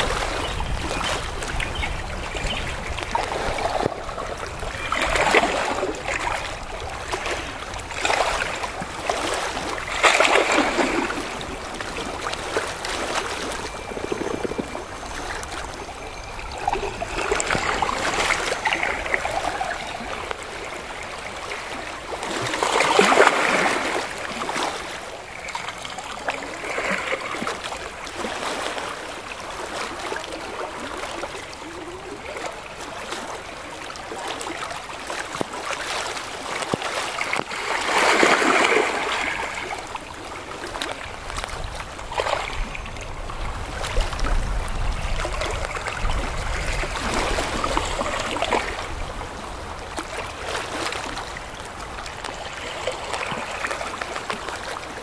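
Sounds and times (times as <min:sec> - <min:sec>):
waves lapping on rocks: 0:00.0 - 0:55.0.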